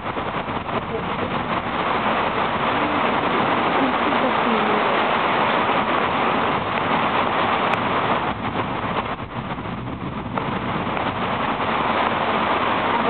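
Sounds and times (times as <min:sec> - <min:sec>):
rain and wind rushing: 0:00.0 - 0:13.0.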